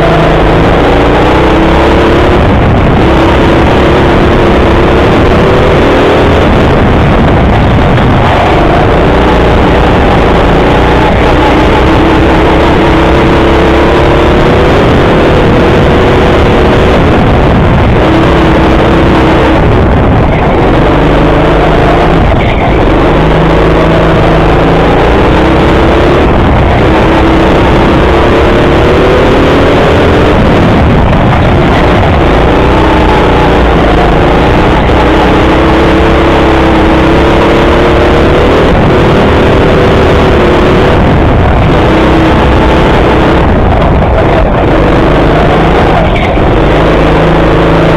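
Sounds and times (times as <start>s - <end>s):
go-kart motor revving: 0.0s - 47.9s.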